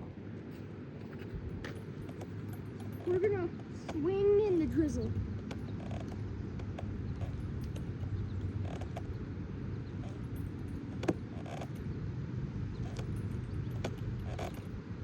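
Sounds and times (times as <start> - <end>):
swing chains clicking and creaking: 1.0 - 15.0
wind rumbling on microphone: 1.0 - 15.0.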